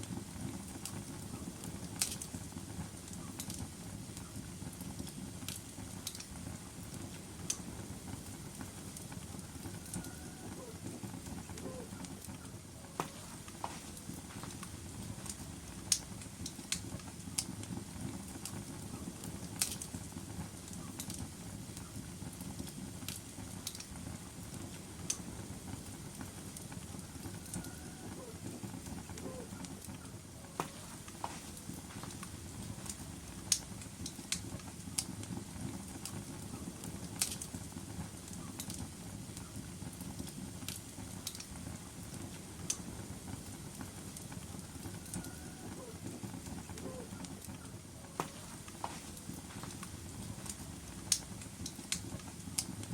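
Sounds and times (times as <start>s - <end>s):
burning wood crackling and popping: 0.0s - 52.9s
fire flames rushing: 0.0s - 52.9s.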